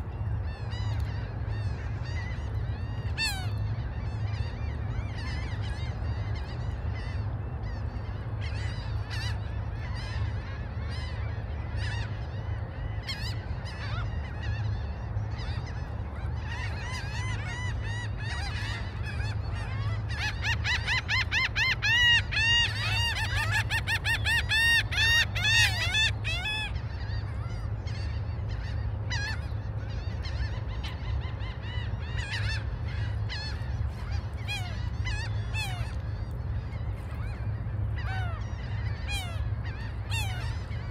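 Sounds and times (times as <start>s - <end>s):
gulls calling: 0.0s - 40.9s.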